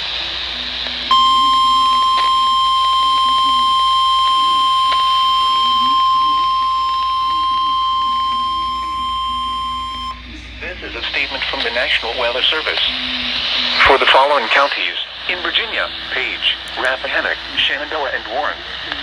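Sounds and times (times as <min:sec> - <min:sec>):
faint static crackles: 0:00.0 - 0:19.0
radio hiss: 0:00.0 - 0:19.0
steady warning alarm beep: 0:01.1 - 0:17.8.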